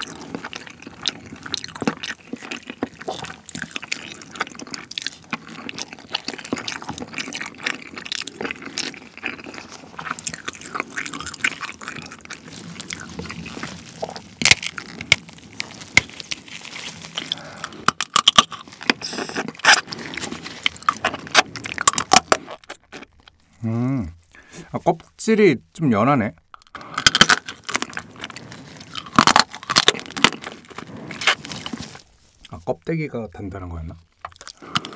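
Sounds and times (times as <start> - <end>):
crab shell cracking: 0.0 - 23.4, 26.4 - 32.5, 34.1 - 34.9
wet chewing: 0.0 - 25.2, 26.4 - 32.6, 34.0 - 34.9.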